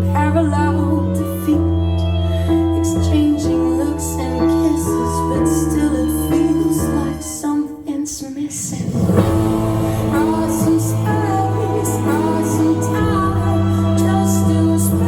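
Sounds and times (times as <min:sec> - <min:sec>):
slow gentle instrumental pop music: 0:00.0 - 0:15.0.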